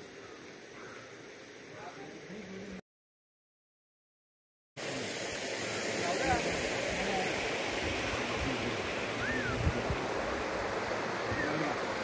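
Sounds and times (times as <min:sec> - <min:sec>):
flowing water rushing: 0:00.0 - 0:02.8, 0:04.8 - 0:12.0.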